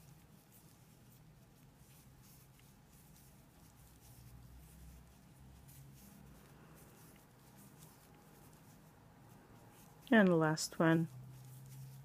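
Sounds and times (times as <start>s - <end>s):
crochet hook working yarn: 0.0s - 12.0s
low room hum: 0.0s - 12.0s.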